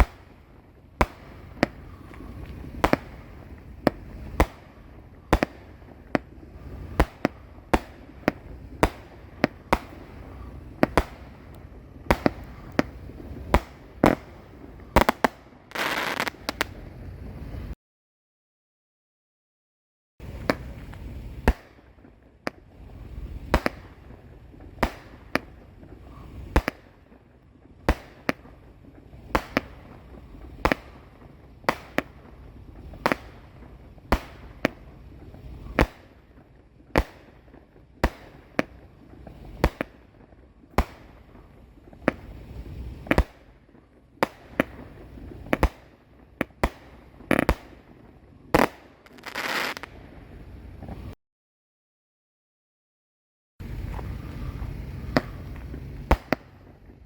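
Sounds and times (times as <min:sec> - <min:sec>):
firework bangs: 0:00.0 - 0:17.8, 0:20.2 - 0:51.2, 0:53.6 - 0:57.0
firework crackling: 0:00.0 - 0:17.8, 0:20.2 - 0:51.2, 0:53.6 - 0:57.0.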